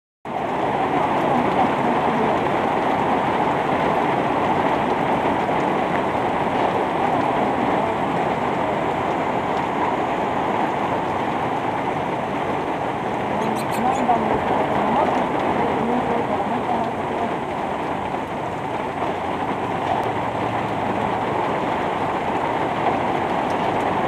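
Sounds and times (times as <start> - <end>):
heavy rain: 0.3 - 24.0.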